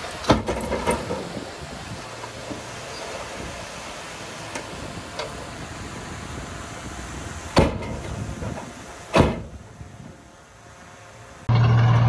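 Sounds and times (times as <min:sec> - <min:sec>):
heavy machinery rumbling: 0:00.0 - 0:12.0.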